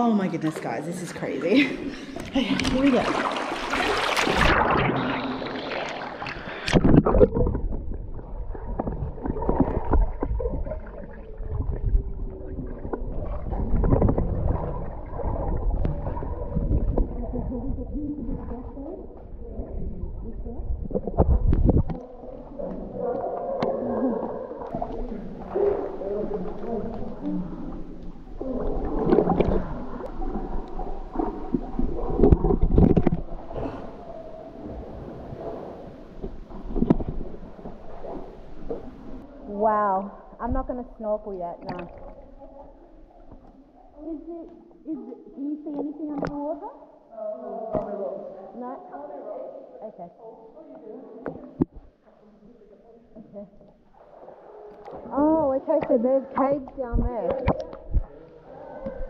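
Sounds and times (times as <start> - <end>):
water splashing: 0.0 - 49.8, 53.1 - 59.0
muffled underwater rumbling: 1.8 - 45.0, 53.2 - 59.0.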